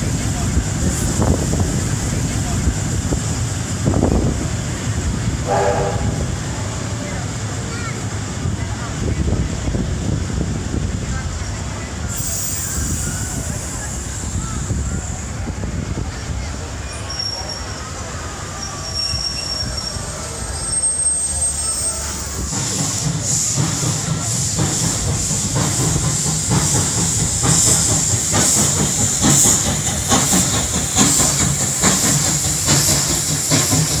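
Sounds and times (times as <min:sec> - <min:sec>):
steam locomotive hiss: 0:00.0 - 0:34.0
train rumble: 0:00.0 - 0:34.0
train wheels clicking on rails: 0:00.0 - 0:34.0.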